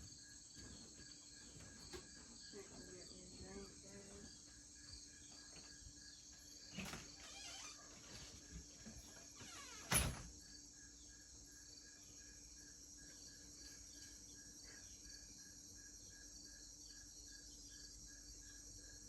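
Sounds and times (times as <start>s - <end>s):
crickets chirping: 0.0s - 19.0s
high insect hiss: 0.0s - 19.0s.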